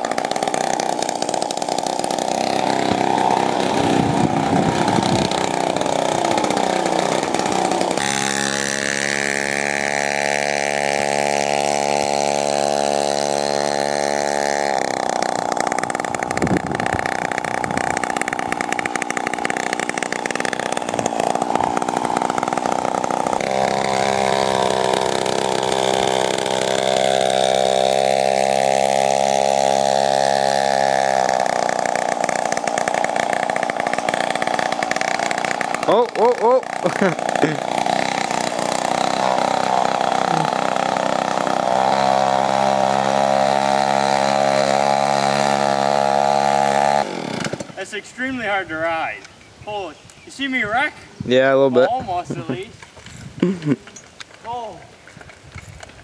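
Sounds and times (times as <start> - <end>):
two-stroke scooter engine running: 0.0 - 47.9.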